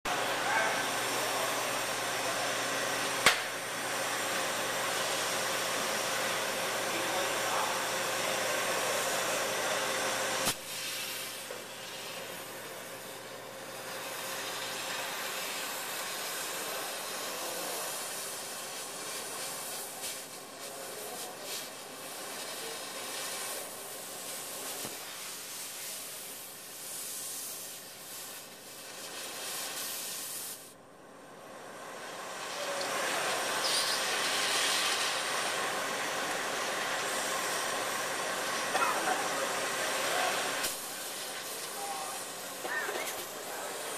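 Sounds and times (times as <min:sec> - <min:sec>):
cutting torch flame hissing: 0:00.1 - 0:43.9.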